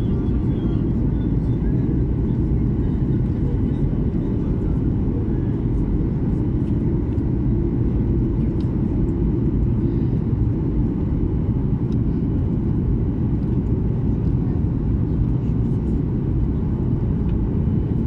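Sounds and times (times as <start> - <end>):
airliner cabin engine rumble: 0.0 - 18.0.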